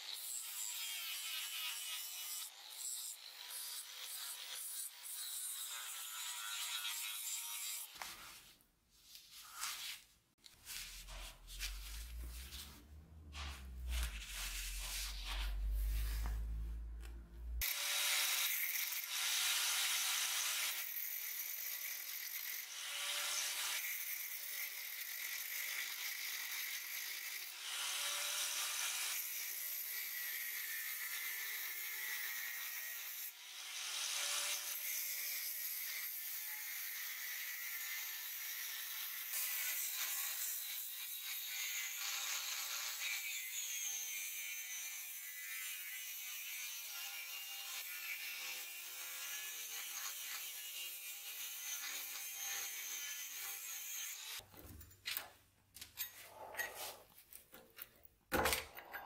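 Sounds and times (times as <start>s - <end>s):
angle grinder grinding steel: 0.0s - 8.6s, 9.2s - 29.1s, 34.2s - 54.4s.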